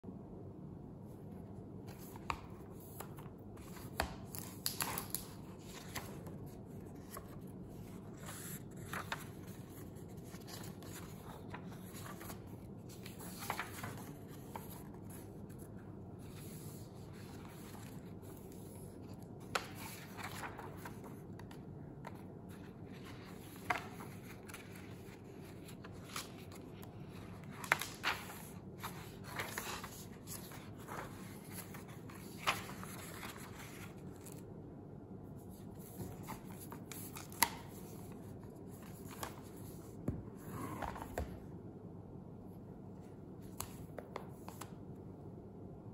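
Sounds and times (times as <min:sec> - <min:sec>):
low room hum: 0:00.0 - 0:45.9
paper pages turning: 0:01.9 - 0:34.4, 0:35.5 - 0:39.8.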